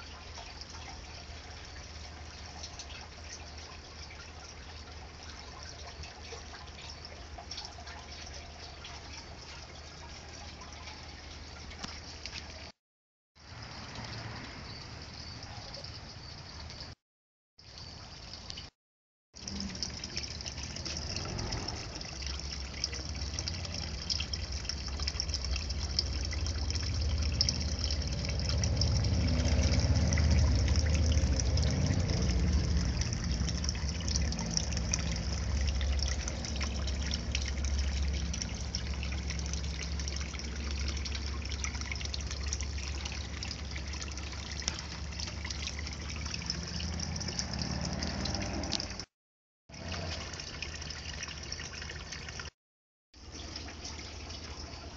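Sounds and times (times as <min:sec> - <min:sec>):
water trickling into pond: 0:00.0 - 0:12.8, 0:13.4 - 0:17.0, 0:17.6 - 0:18.8, 0:19.4 - 0:49.1, 0:49.7 - 0:52.6, 0:53.2 - 0:54.9.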